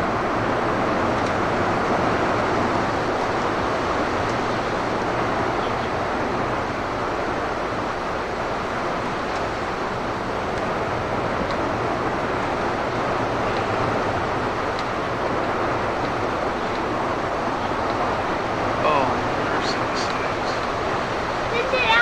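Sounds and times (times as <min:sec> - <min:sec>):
strong wind roaring: 0:00.0 - 0:22.0.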